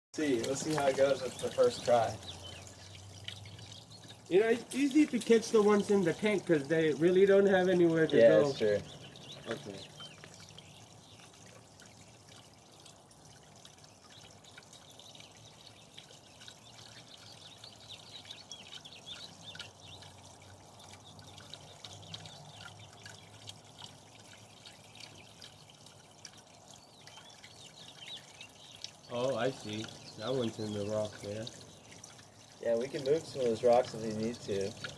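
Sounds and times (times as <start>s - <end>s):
water trickling and dripping: 0.2s - 34.9s.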